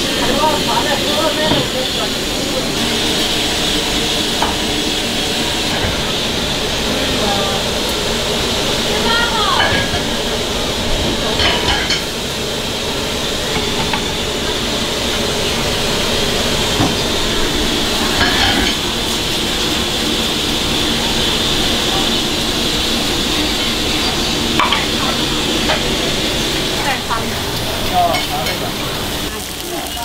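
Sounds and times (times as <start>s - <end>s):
curry sizzling in a skillet: 0.0s - 30.0s.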